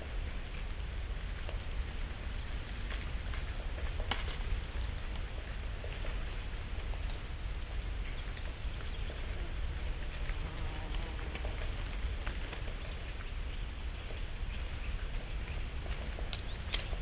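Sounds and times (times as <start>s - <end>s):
dry leaves falling and pattering: 0.6s - 17.0s.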